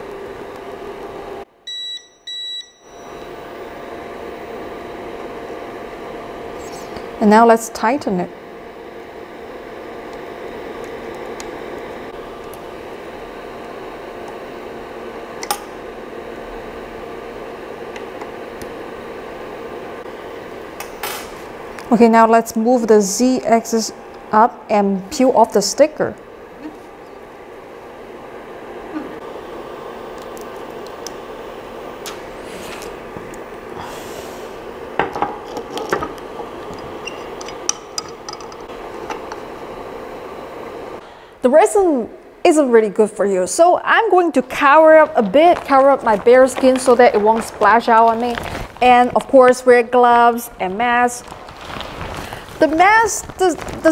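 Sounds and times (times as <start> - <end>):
steady fan hum: 0.0 - 53.9.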